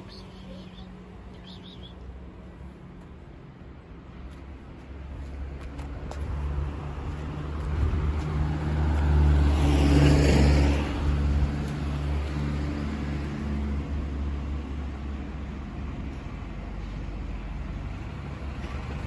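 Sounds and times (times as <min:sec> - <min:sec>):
vehicle passing by: 0:00.4 - 0:19.0.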